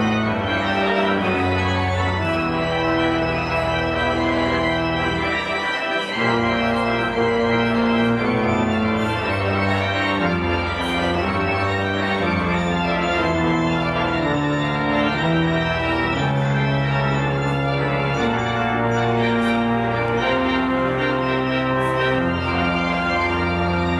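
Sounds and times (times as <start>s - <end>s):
pipe organ playing chords: 0.0s - 23.9s.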